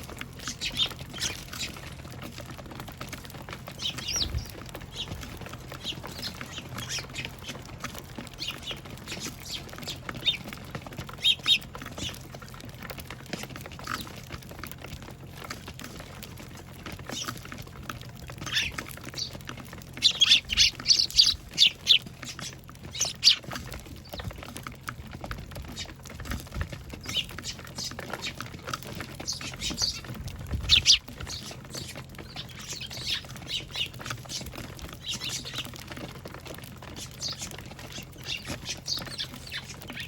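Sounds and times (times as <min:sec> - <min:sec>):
sparrows chirping: 0:00.0 - 0:40.0.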